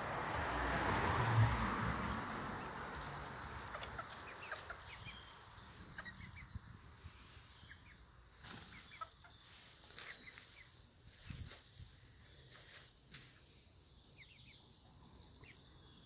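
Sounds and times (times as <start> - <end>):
young hens clucking and peeping: 2.0 - 16.0.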